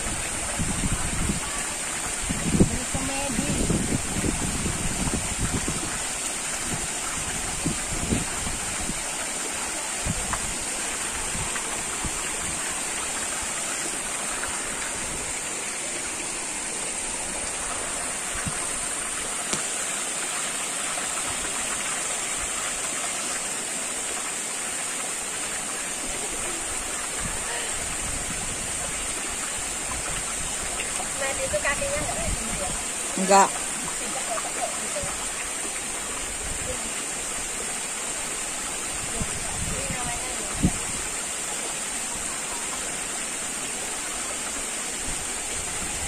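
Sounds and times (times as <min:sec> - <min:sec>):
stream running over rocks: 0:00.0 - 0:46.0.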